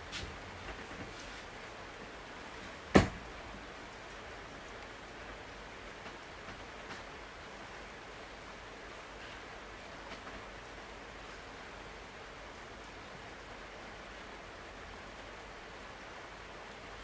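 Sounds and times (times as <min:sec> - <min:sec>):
falling rain hiss: 0:00.0 - 0:17.0.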